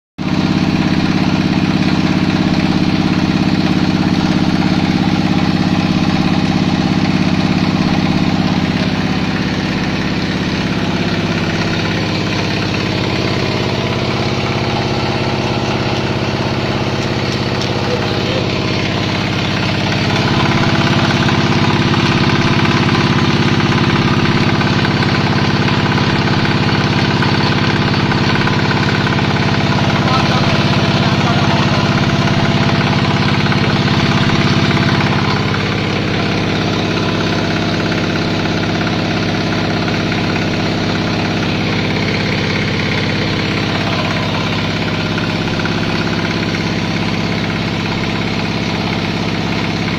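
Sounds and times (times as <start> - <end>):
pellet press machine droning: 0.2 - 49.9.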